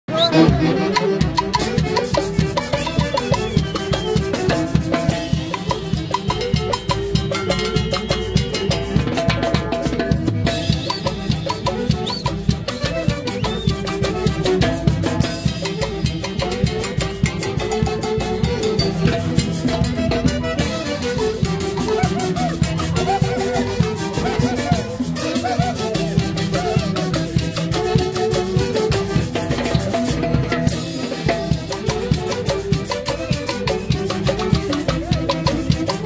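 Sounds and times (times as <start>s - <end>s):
driving drum rhythm: 0.1s - 36.0s
wind instrument melody: 0.1s - 36.0s.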